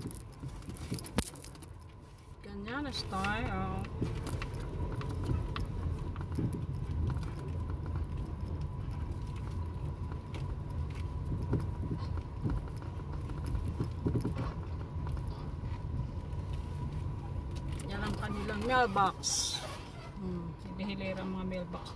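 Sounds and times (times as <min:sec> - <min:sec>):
car cabin rumble: 0:00.0 - 0:21.9.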